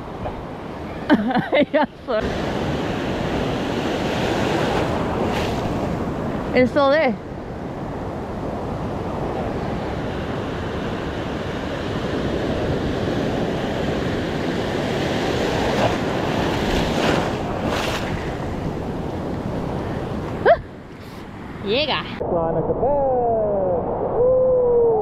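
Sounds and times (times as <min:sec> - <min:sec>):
ocean surf breaking: 0:00.0 - 0:22.2
wind buffeting microphone: 0:02.2 - 0:25.0.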